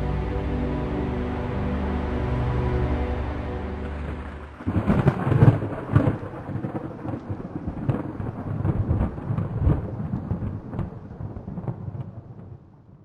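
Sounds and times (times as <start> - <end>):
low rumbling: 0.0 - 11.5.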